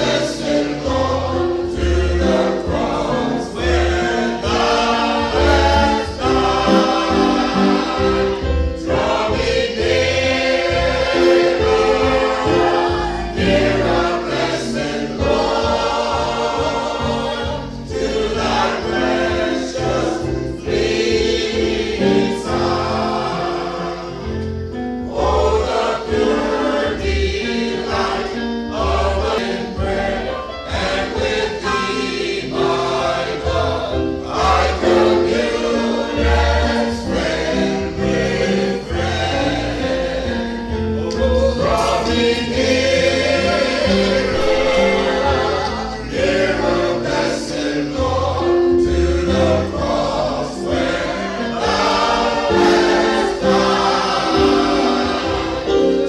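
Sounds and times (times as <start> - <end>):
choir singing gospel: 0.0 - 56.0
instrumental accompaniment: 0.0 - 56.0.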